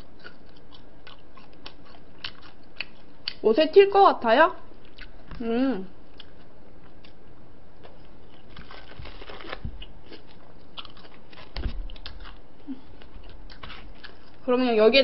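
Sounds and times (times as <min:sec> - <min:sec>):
crunchy chewing of fried food: 0:00.0 - 0:03.4, 0:04.7 - 0:05.4, 0:06.0 - 0:14.5.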